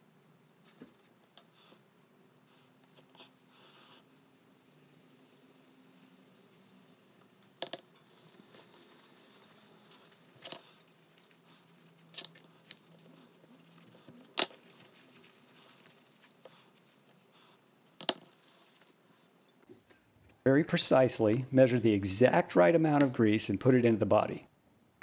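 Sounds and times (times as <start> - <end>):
faint rubbing and scraping: 0.4 - 17.6, 18.2 - 21.8.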